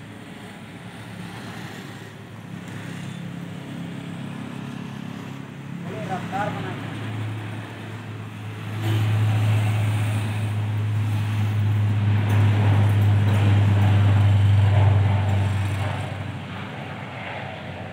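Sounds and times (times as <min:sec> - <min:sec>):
turboprop airliner taking off: 0:00.0 - 0:17.9.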